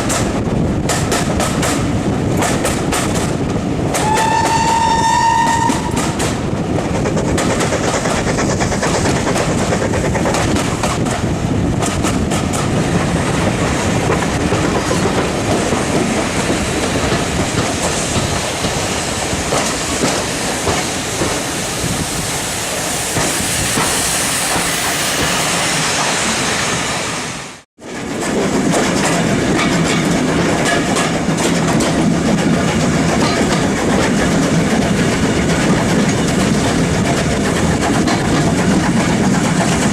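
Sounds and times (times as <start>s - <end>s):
clickety-clack over rail joints: 0.0s - 21.5s, 23.1s - 26.3s, 27.8s - 39.9s
train wheels rumbling on rails: 0.0s - 39.9s.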